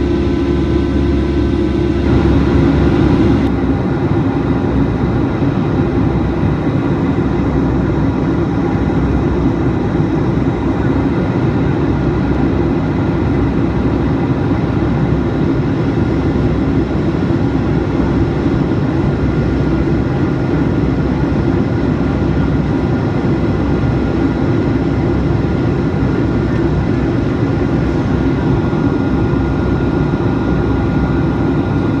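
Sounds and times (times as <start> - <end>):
faint steady whines: 0.0 - 32.0
jet engines and airflow rush: 0.0 - 32.0.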